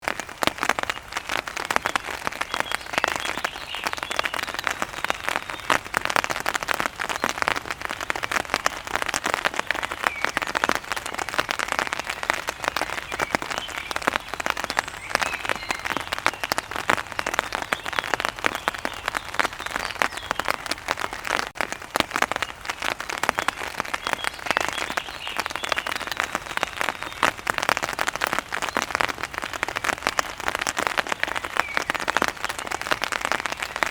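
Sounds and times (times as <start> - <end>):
rain pattering on umbrella: 0.0 - 33.9.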